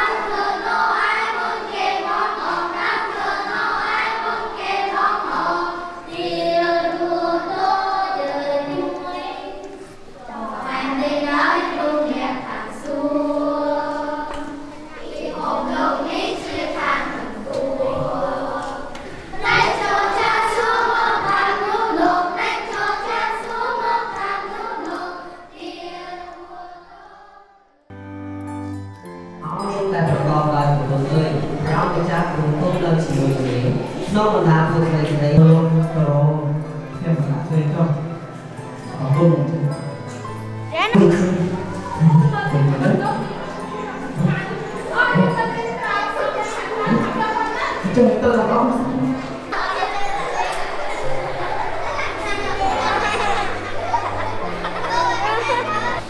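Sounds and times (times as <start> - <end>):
children's choir singing: 0.0 - 27.9, 28.7 - 56.0.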